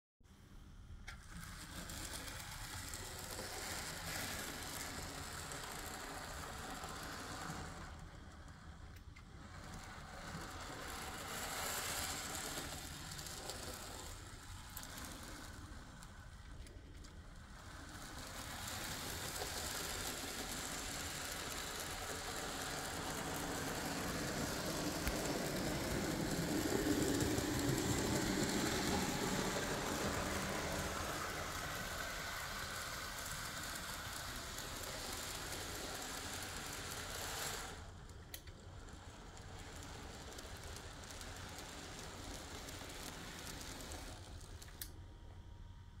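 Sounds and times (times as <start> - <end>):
small electric motor whirring: 1.1 - 45.0
wheels rattling on rails: 1.2 - 45.0.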